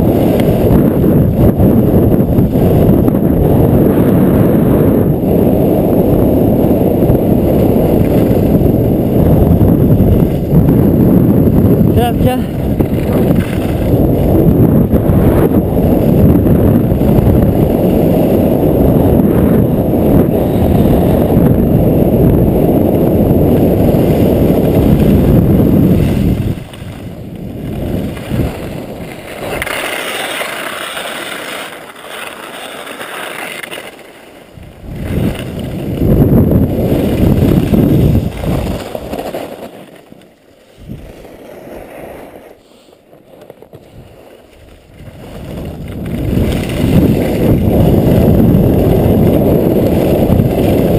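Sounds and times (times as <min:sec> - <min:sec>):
wind buffeting microphone: 0:00.0 - 0:32.4, 0:34.4 - 0:39.8, 0:40.8 - 0:42.4, 0:43.7 - 0:50.9
skis scraping on snow: 0:00.0 - 0:50.9.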